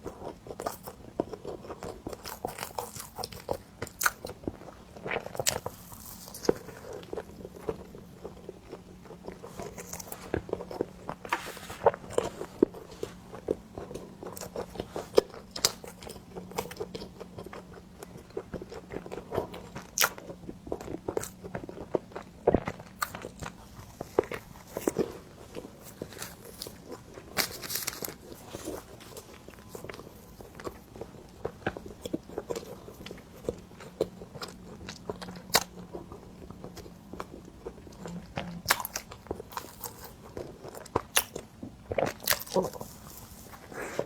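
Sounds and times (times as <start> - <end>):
biting and chewing bread: 0.0 - 44.0.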